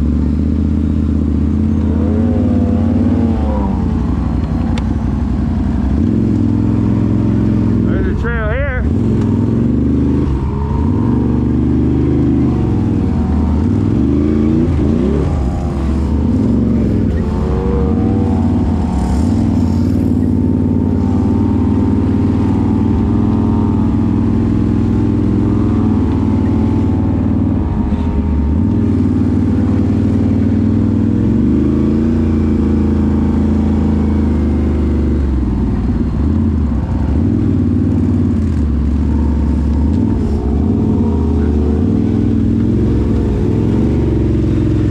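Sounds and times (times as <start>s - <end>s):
off-road vehicle engine revving: 0.0s - 44.9s.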